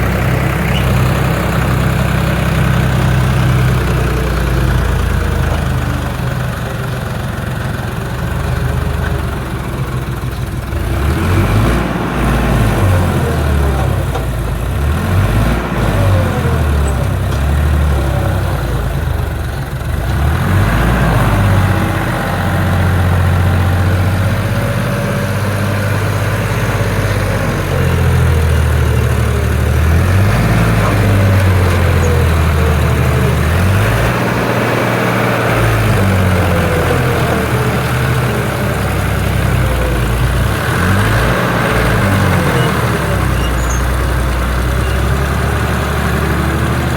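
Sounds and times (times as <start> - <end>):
tractor engine revving: 0.0 - 46.9.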